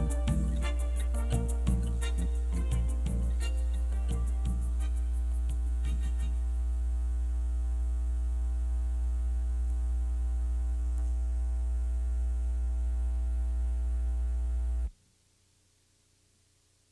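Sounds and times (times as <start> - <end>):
electrical mains hum: 0.0 - 16.9.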